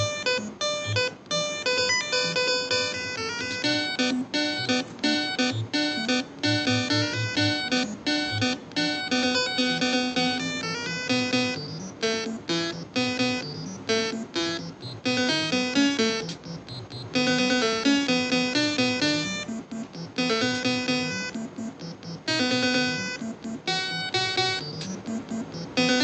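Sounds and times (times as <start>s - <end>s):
keyboard tune: 0.0s - 26.0s.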